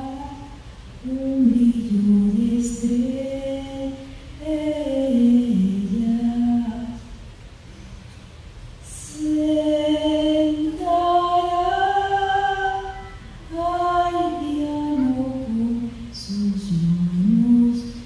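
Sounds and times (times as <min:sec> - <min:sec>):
woman singing unaccompanied: 0:00.0 - 0:07.2, 0:08.8 - 0:18.0.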